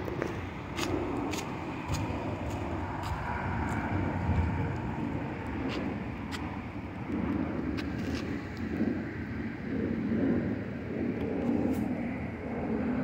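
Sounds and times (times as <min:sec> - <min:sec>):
distant engine rumble: 0:00.0 - 0:13.0.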